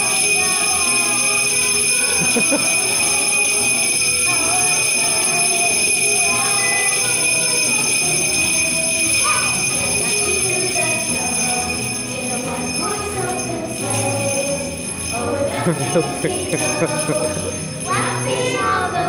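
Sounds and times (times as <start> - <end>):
children's voices: 0.0 - 19.0
jingle bells shaking: 0.0 - 19.0.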